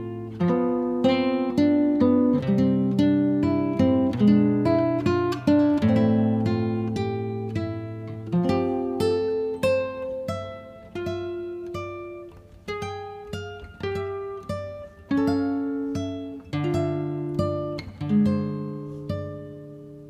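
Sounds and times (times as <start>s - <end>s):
plucked acoustic guitar melody: 0.0s - 20.0s.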